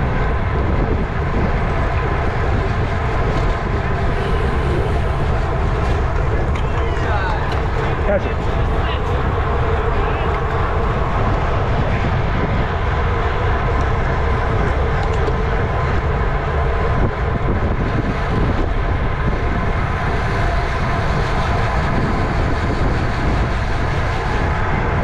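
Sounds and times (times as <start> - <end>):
bicycle road noise: 0.0 - 25.0
faint tyre and drivetrain hum: 0.0 - 25.0
wind rush on microphone: 0.0 - 25.0.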